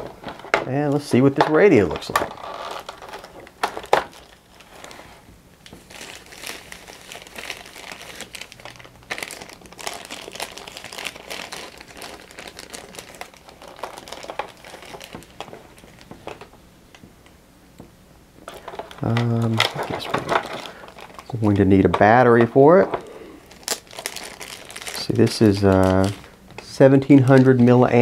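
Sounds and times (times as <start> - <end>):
plastic bag crinkling: 0.0 - 16.5, 18.4 - 28.0.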